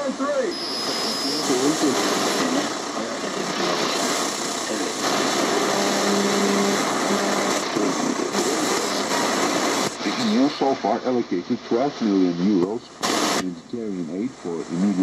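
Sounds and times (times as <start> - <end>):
faint radio voices: 0.0 - 15.0
shortwave radio static and hiss: 0.0 - 15.0.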